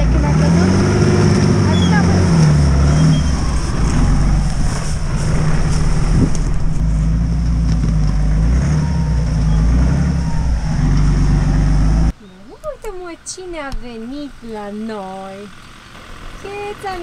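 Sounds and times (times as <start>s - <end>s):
off-road vehicle engine at low revs: 0.0s - 17.0s.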